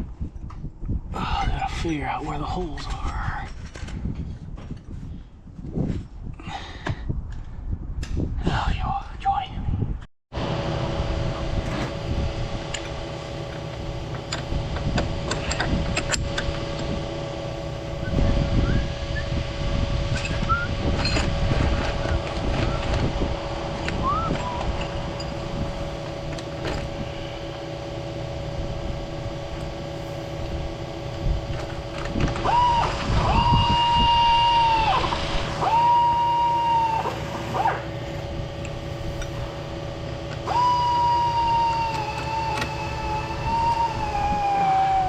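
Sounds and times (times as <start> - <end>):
machine hum with low rumble: 0.0 - 45.0.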